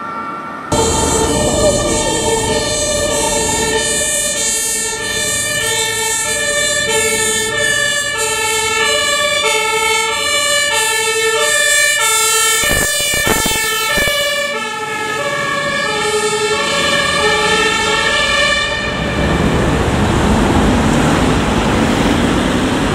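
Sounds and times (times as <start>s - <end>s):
road and wind noise: 0.0s - 22.9s
two-tone fire engine siren: 0.0s - 22.9s.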